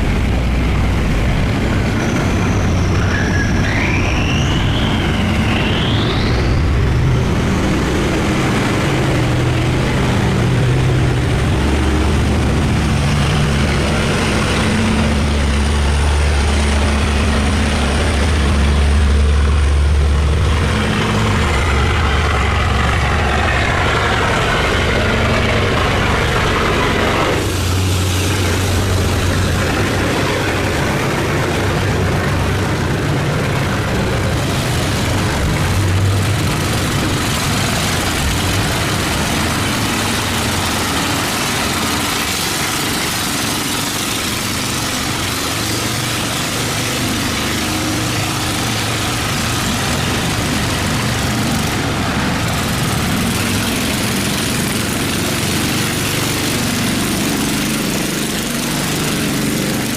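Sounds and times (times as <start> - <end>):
boat engines droning: 0.0 - 59.9.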